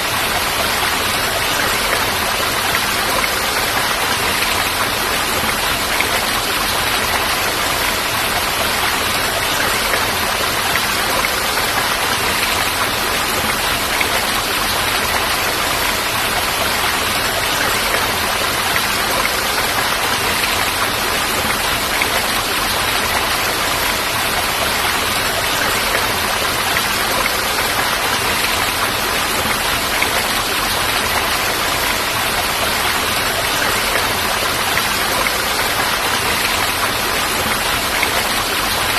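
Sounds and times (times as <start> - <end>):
falling water rushing: 0.0 - 38.9.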